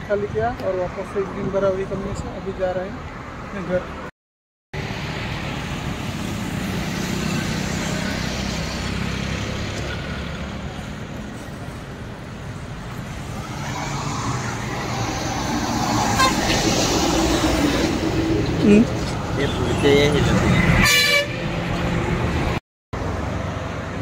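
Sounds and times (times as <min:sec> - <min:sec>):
highway traffic road rumble: 0:00.0 - 0:04.1, 0:04.7 - 0:24.0.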